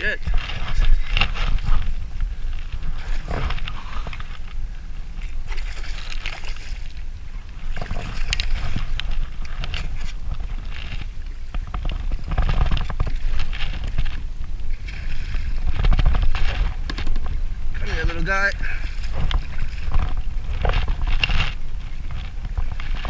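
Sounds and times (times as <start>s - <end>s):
water splashing against kayak hull: 0.0s - 23.0s
wind buffeting microphone: 0.0s - 23.0s.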